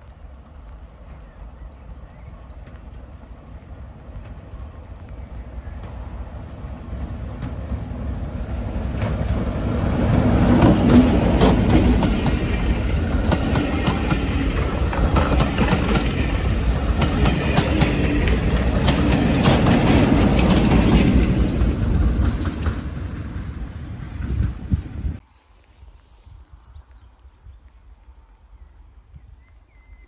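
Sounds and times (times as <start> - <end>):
locomotive engine passing: 0.0 - 25.2
train wheels clicking over rail joints: 0.2 - 24.8.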